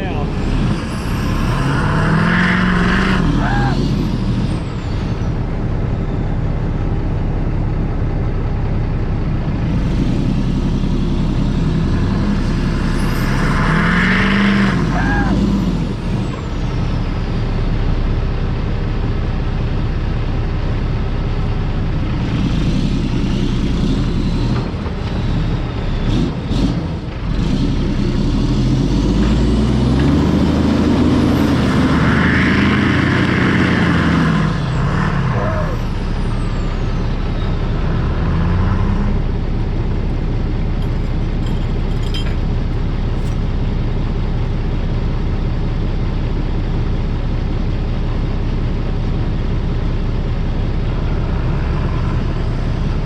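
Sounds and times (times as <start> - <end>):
diesel truck engines revving: 0.0 - 53.0.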